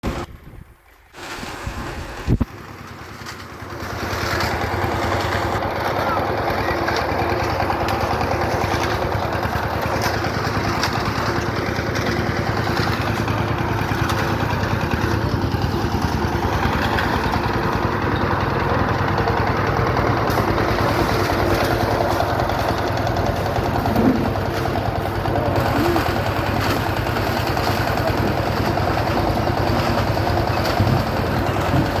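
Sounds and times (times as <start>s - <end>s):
small engine running: 1.9s - 32.0s.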